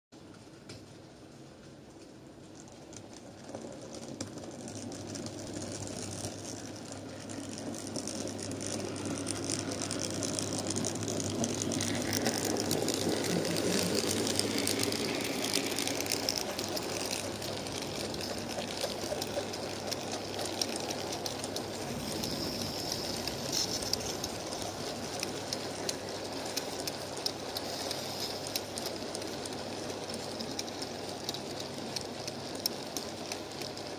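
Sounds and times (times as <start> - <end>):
model train whirring rattle: 1.8 - 33.9.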